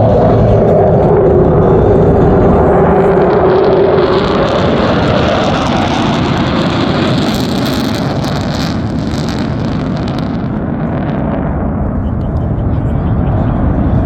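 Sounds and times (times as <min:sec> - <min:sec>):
fighter jet in flight: 0:00.0 - 0:14.0.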